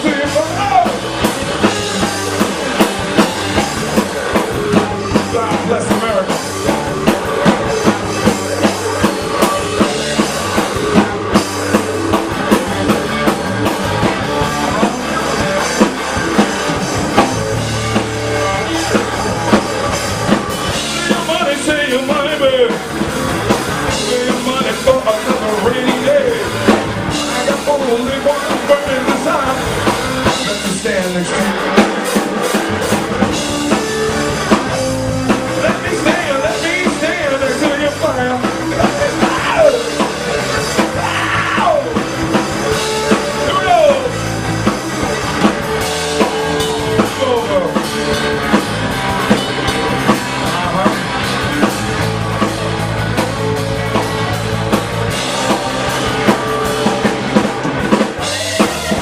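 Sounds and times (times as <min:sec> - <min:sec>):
blues-rock band playing: 0:00.0 - 0:59.0
electric guitar bending notes: 0:00.0 - 0:59.0.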